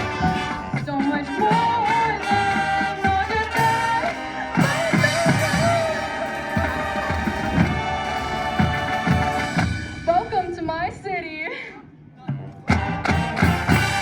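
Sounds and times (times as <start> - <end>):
brass and winds sustained notes: 0.0 - 11.2, 12.8 - 14.0.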